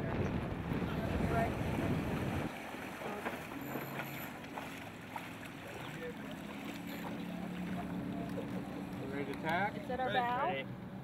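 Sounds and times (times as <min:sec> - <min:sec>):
water rushing: 0:00.0 - 0:10.7
wind: 0:00.0 - 0:11.0.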